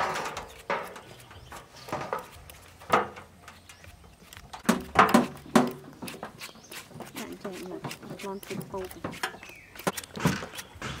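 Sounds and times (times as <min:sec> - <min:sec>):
knife shaving coconut husk: 0:00.3 - 0:02.8, 0:03.8 - 0:11.0.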